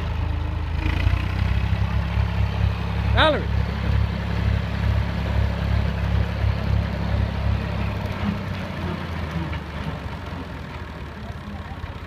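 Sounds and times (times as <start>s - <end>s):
tractor engine throbbing: 0.0s - 12.0s.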